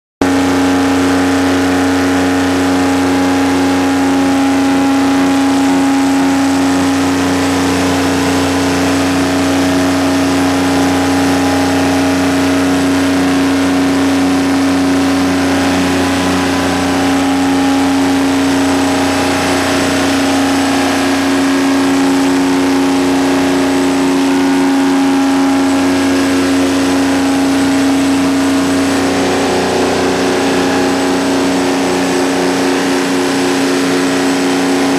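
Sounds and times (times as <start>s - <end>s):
diesel generator droning: 0.2s - 34.9s.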